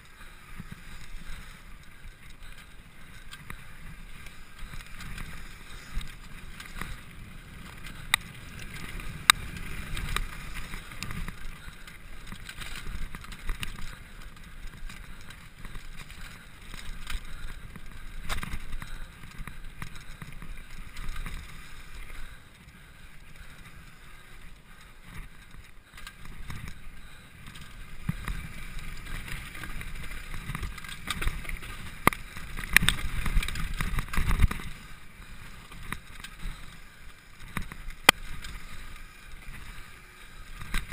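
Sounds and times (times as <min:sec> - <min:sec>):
bike clacking and rattling: 0:00.0 - 0:40.9.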